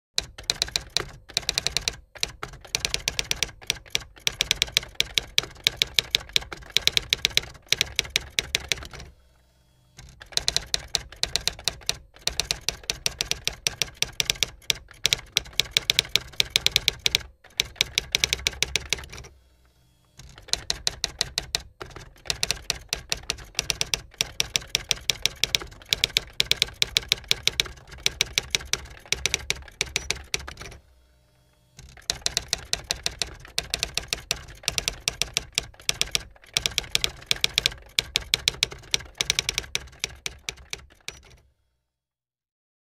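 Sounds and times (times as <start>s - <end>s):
typewriter keys clacking: 0.2s - 9.1s, 10.1s - 19.3s, 20.2s - 30.8s, 31.9s - 41.4s.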